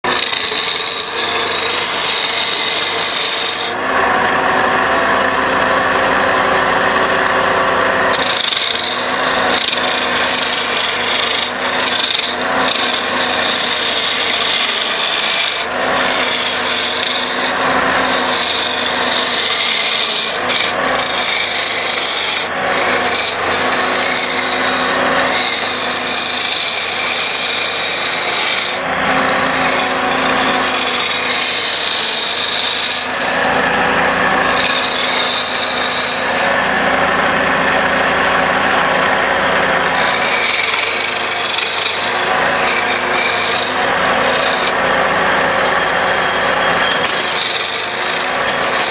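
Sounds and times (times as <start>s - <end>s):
chisel scraping spinning wood: 0.0s - 48.9s
wood lathe running: 0.0s - 48.9s.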